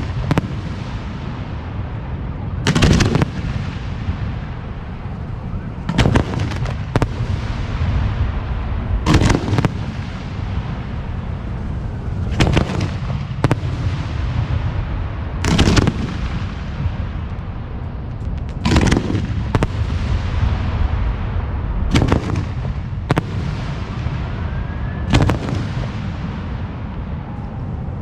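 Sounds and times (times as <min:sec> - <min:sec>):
low rumble and crackle: 0:00.0 - 0:28.0
firework shells booming: 0:02.7 - 0:26.9.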